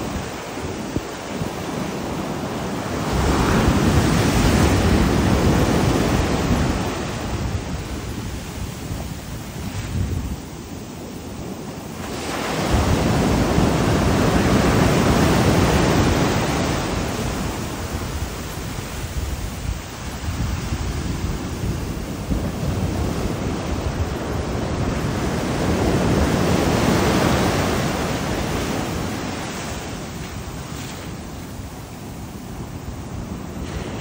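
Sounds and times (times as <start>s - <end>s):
ocean waves breaking: 0.0s - 34.0s
wind on microphone: 0.0s - 34.0s.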